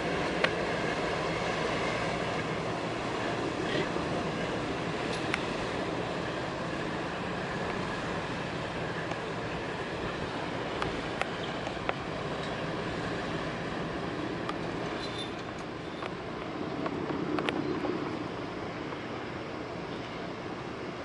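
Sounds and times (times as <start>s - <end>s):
boat engines droning: 0.0s - 21.0s
broad rushing noise: 0.0s - 21.0s.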